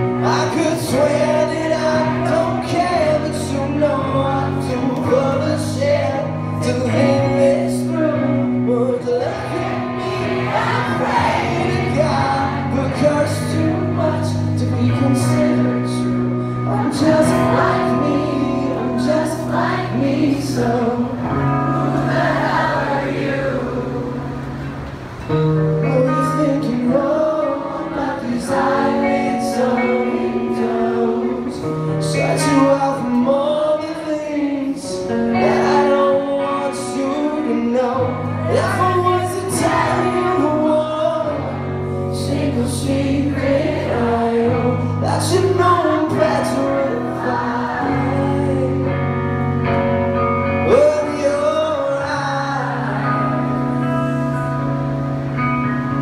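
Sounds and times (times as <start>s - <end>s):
person singing: 0.0s - 24.3s, 25.8s - 49.3s, 50.6s - 54.5s
bass: 0.0s - 56.0s
electric guitar: 0.0s - 56.0s.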